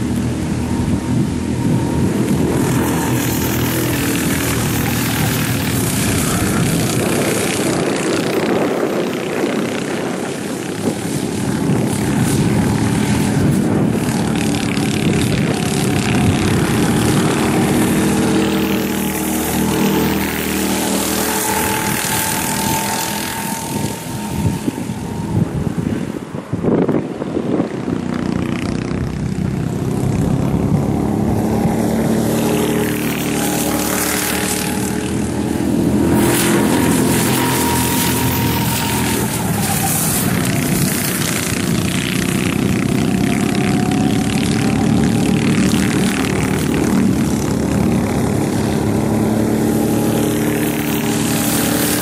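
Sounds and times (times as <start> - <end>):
kart engines buzzing: 0.0 - 52.0.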